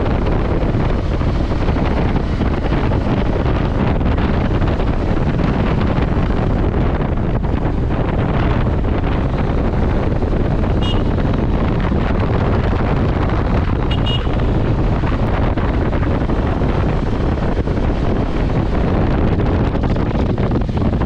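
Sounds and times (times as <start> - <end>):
vehicle noise: 0.0 - 21.0
wind buffeting microphone: 0.0 - 21.0.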